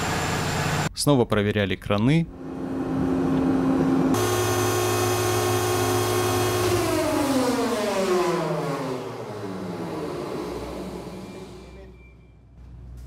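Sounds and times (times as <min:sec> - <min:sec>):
crane machinery whining: 0:02.3 - 0:13.0.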